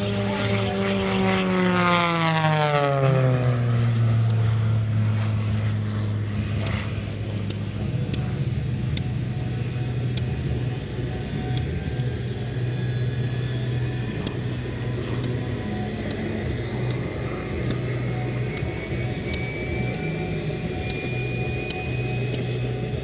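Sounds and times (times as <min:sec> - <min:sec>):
propeller plane passing overhead: 0:00.0 - 0:23.0.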